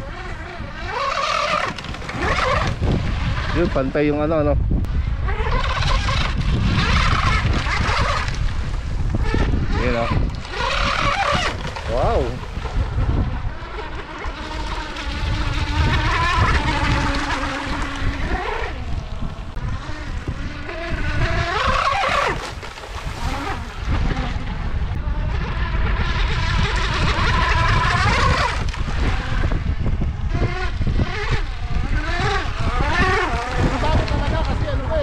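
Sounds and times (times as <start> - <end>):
racing boat motor whine: 0.0 - 35.0.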